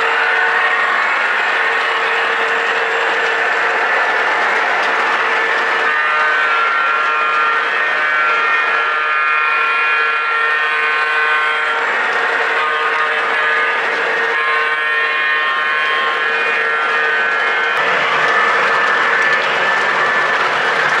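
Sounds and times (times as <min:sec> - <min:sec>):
model train rolling rumble: 0:00.0 - 0:21.0.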